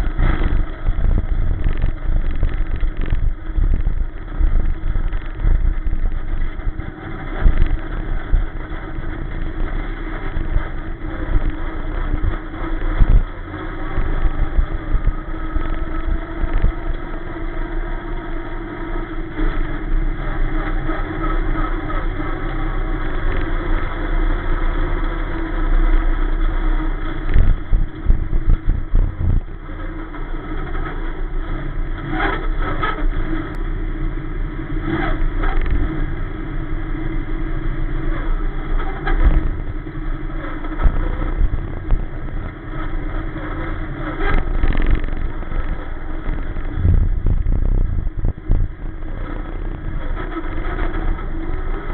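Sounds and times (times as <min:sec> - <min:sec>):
race car engine running slowly: 0:00.0 - 0:51.9.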